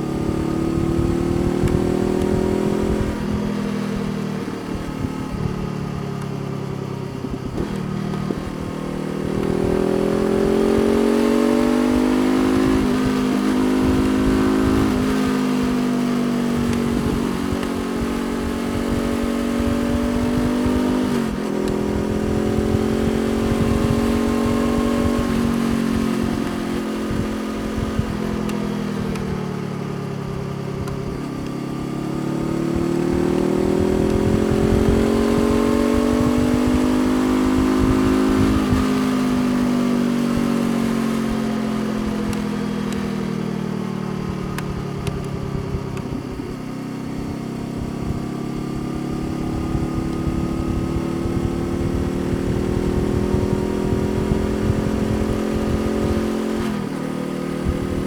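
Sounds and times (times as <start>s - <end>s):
motorcycle engine pulling: 6.4s - 58.0s.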